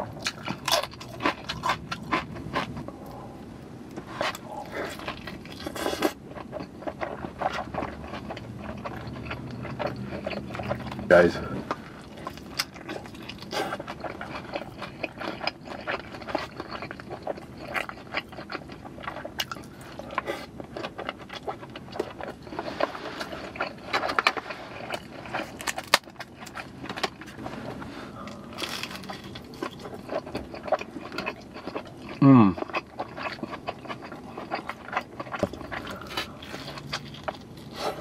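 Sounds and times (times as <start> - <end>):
chewing and crunching: 0.0 - 38.0.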